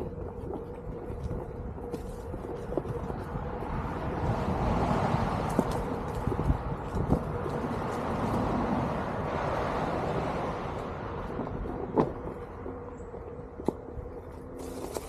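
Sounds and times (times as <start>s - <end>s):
electric board tyre noise: 0.0s - 15.0s
wind on microphone: 0.0s - 15.0s.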